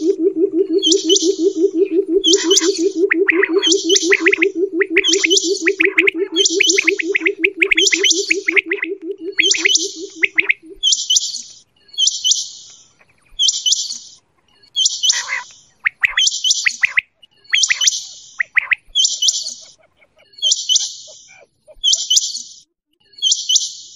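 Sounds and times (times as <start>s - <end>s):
quail calling: 0.0s - 11.2s, 11.9s - 22.6s.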